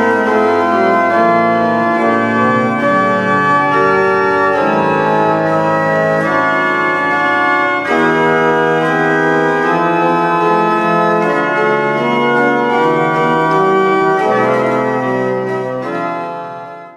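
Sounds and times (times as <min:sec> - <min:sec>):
organ chords: 0:00.0 - 0:16.9.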